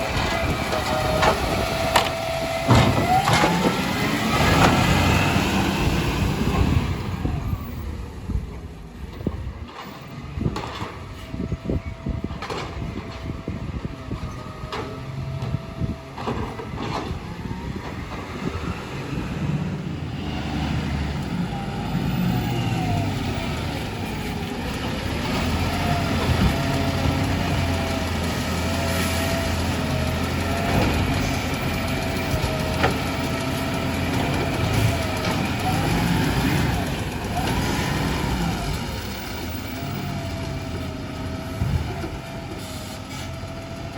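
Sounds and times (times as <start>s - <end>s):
garbage truck engine hum: 0.0s - 43.9s.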